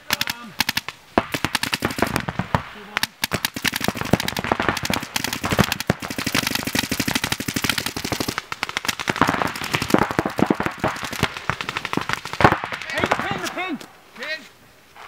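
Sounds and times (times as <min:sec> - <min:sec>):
paintball markers firing rapidly: 0:00.0 - 0:13.6.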